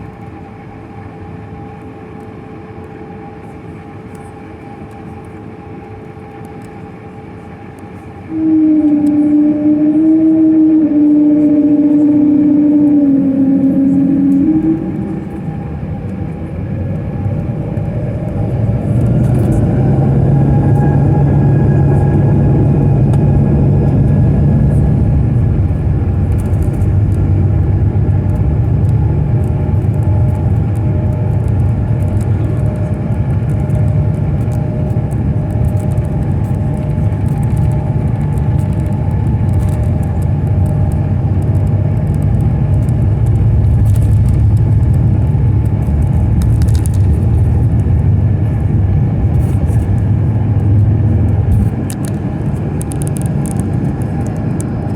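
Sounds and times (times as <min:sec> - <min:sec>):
jet engines rumbling in cabin: 0:00.0 - 0:54.9.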